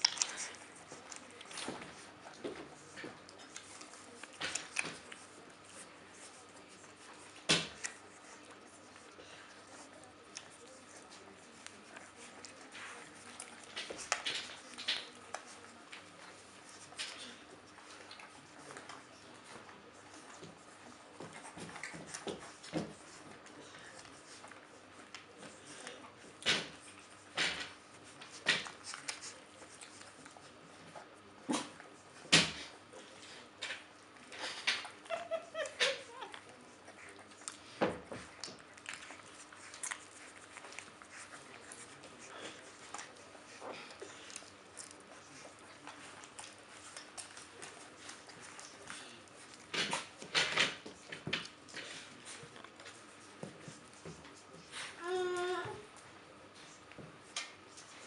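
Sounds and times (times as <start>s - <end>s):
faint ticks and scrapes: 0.0s - 34.9s, 35.9s - 55.0s
puppies moving on wooden floor: 0.0s - 58.0s.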